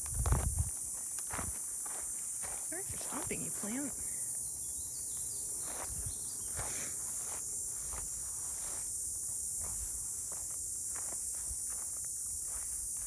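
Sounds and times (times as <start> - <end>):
footsteps walking: 0.0 - 3.9, 5.6 - 13.0
insects droning: 0.0 - 13.0.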